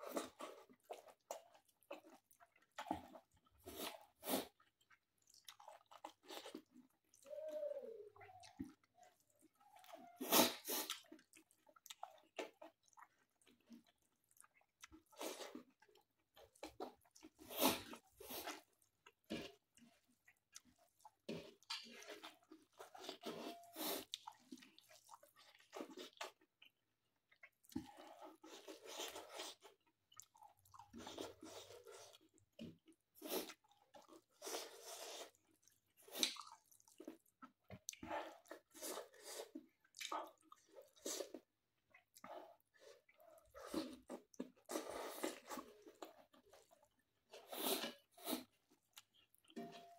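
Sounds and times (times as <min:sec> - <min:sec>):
mouth chewing food: 0:00.0 - 0:49.9.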